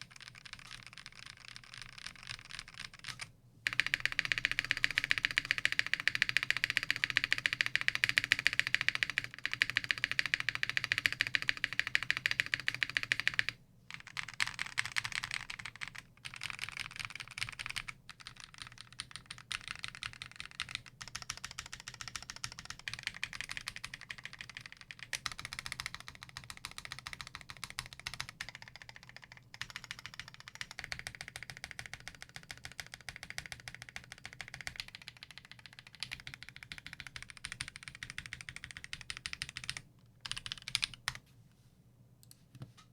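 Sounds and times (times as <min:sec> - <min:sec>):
fast mechanical keyboard typing: 0:00.0 - 0:41.2.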